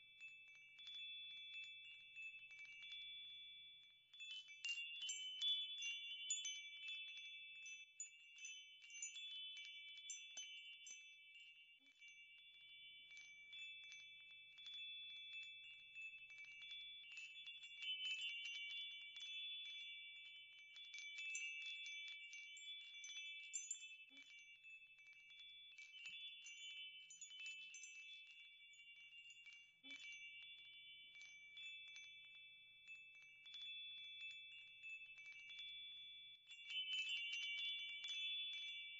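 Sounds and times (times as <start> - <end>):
wind chimes tinkling: 0.0 - 38.9.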